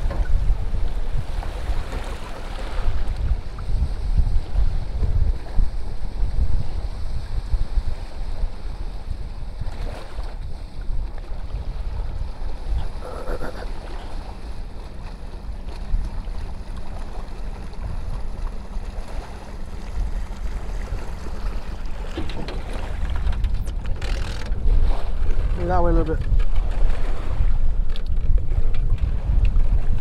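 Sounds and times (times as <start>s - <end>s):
small waves lapping at shore: 0.0s - 3.6s, 7.6s - 28.1s
wind buffeting microphone: 0.0s - 30.0s.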